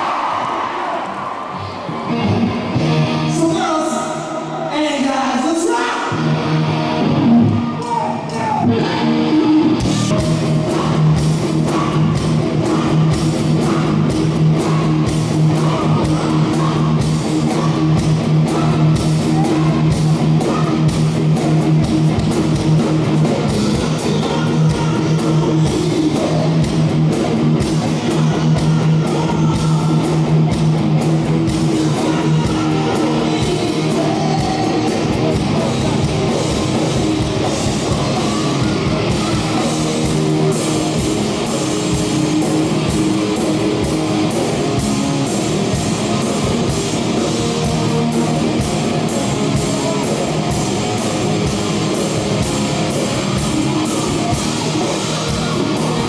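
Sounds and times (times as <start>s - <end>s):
live rock band playing: 1.5s - 4.6s, 5.4s - 56.0s
drums and cymbals: 9.8s - 56.0s.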